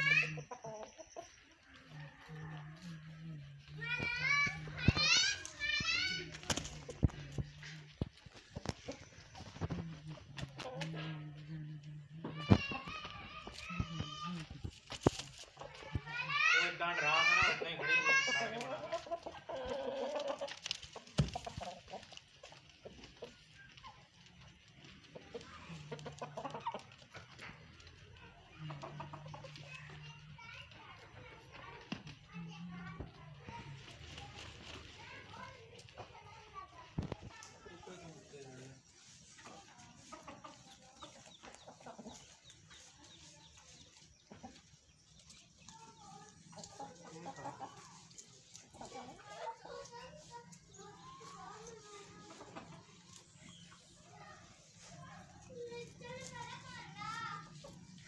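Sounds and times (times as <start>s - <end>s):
chickens clucking softly: 0.0s - 58.0s.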